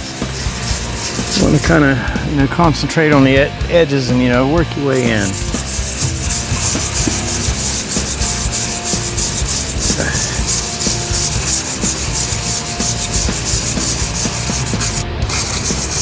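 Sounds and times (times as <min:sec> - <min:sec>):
sandpaper scratching by hand: 0:00.0 - 0:02.5, 0:03.1 - 0:16.0.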